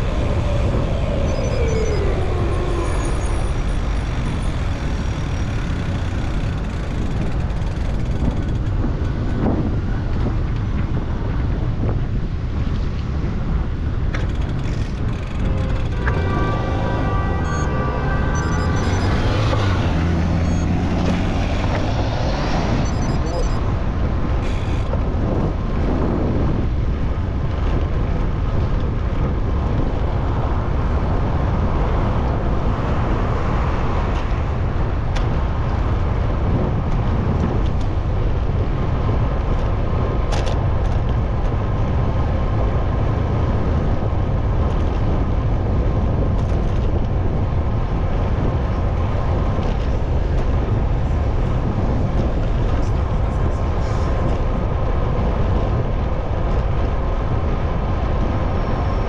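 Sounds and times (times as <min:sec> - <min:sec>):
street traffic: 0:00.0 - 0:59.0
wind on microphone: 0:00.0 - 0:59.0.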